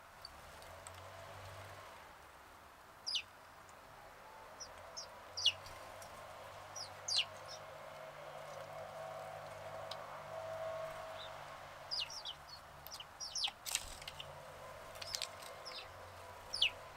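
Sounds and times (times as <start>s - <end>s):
songbird chirping: 3.0s - 16.9s.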